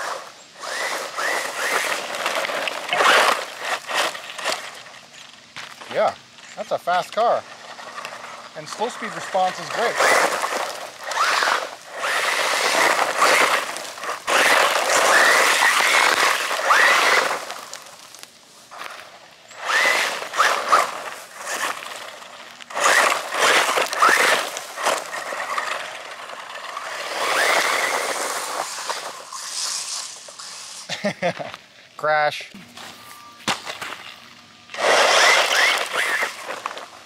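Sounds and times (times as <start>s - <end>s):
rc car motor whine: 0.0s - 30.9s, 32.7s - 37.0s
tyres crunching gravel: 0.0s - 37.0s.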